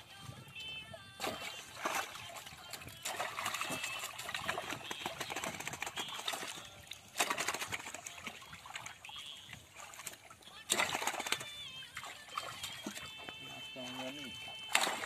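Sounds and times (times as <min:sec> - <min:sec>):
fish splashing in a net: 0:01.2 - 0:15.0.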